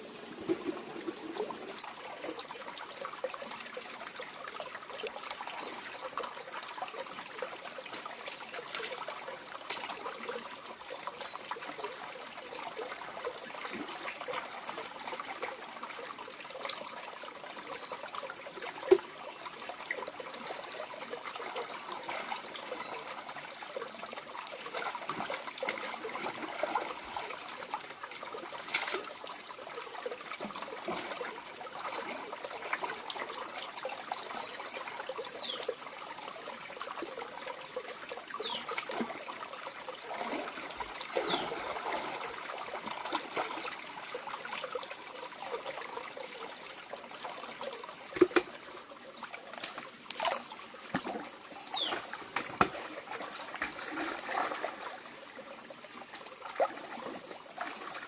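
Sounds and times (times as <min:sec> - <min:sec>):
water trickling: 0:00.1 - 0:58.0.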